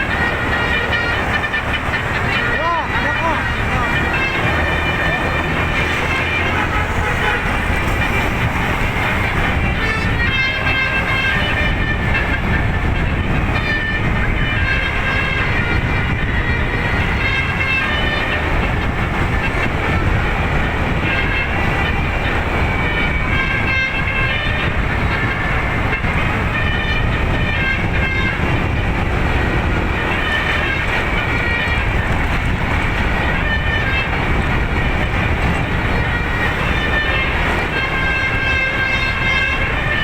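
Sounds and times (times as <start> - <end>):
musical air horn melody: 0.0 - 40.0.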